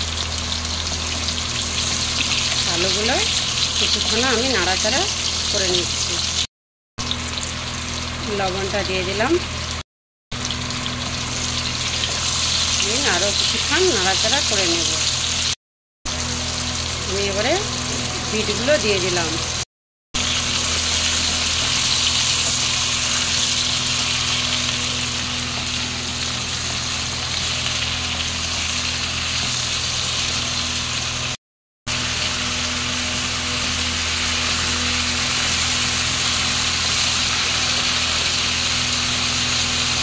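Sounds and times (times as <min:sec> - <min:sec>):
vegetables sizzling in hot oil: 0:00.0 - 0:09.8, 0:10.4 - 0:19.6, 0:20.2 - 0:40.0.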